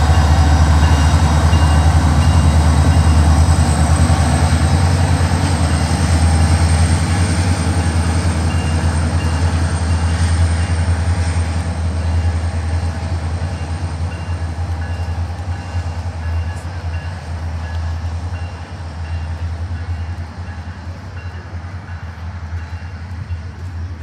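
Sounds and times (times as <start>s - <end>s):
diesel locomotive engine drone: 0.0s - 24.0s
rail noise: 0.0s - 24.0s.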